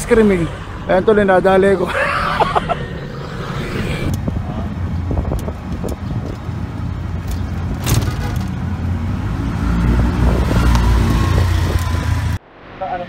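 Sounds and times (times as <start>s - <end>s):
road traffic noise: 0.0s - 13.0s
vehicle engine running nearby: 0.0s - 13.0s.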